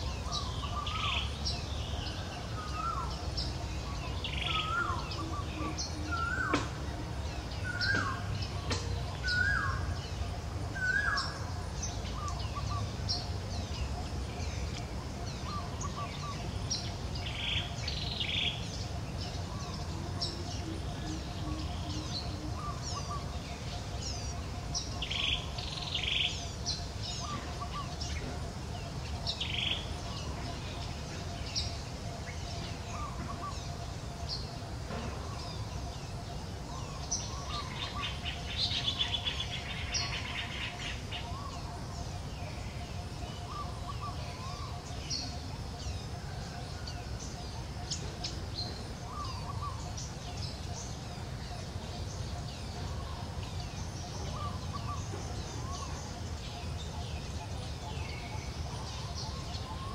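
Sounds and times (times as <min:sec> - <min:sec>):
birds chirping and calling: 0:00.0 - 0:59.9
steady low background noise: 0:00.0 - 0:59.9.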